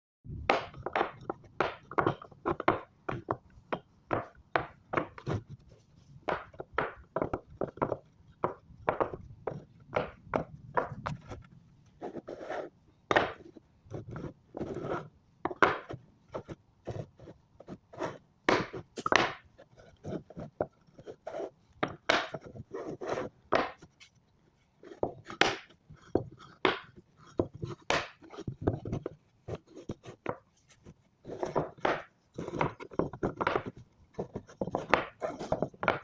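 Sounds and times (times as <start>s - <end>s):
wood knocking and scraping: 0.4s - 24.2s, 24.8s - 36.0s.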